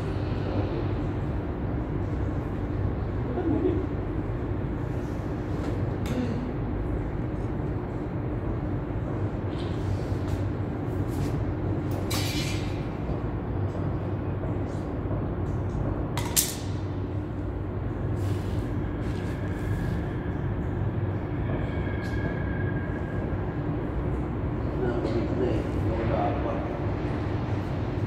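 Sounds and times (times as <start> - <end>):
machine hum: 0.0 - 28.0.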